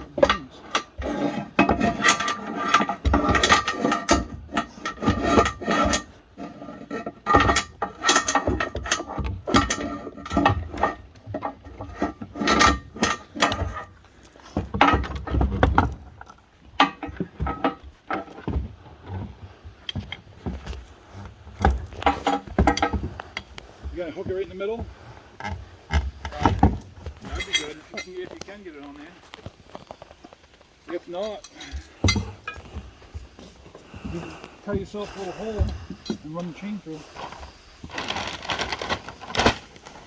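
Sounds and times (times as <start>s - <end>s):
wood and metal knocking and scraping: 0.0s - 40.0s.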